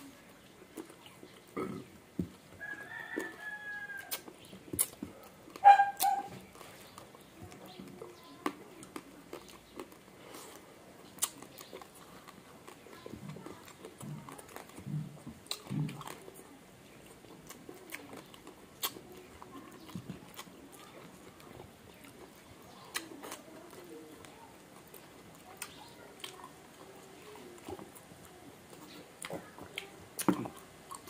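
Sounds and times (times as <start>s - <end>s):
chewing and crunching crispy food: 0.0s - 31.0s.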